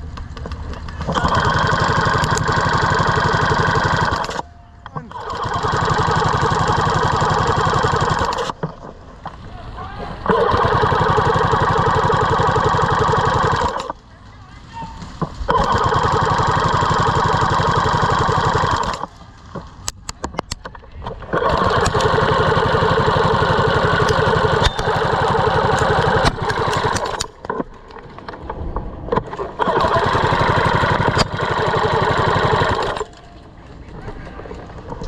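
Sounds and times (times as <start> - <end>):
sharp clicks: 0.0 - 9.4, 10.3 - 14.0, 15.3 - 35.0
airsoft minigun firing: 0.8 - 8.8, 10.2 - 14.0, 15.4 - 28.3, 29.1 - 33.3.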